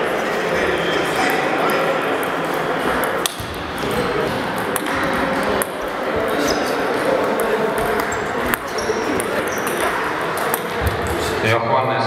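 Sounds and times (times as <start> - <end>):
distant voices: 0.0 - 11.6
table tennis balls clicking: 1.2 - 11.2.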